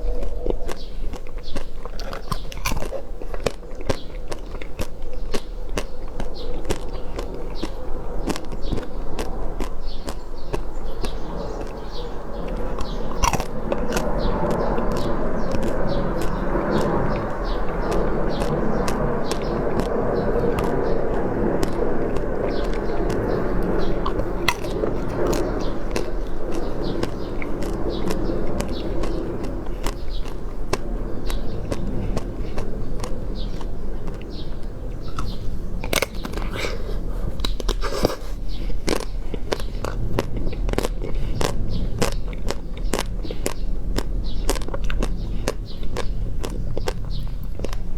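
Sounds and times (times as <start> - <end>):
chewing and mouth smacks: 0.0 - 47.9
steady low hum: 0.0 - 47.9.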